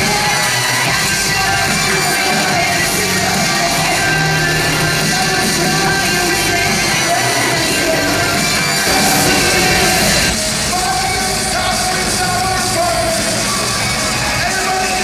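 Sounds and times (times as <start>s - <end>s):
loud rock music with singing: 0.0s - 15.0s.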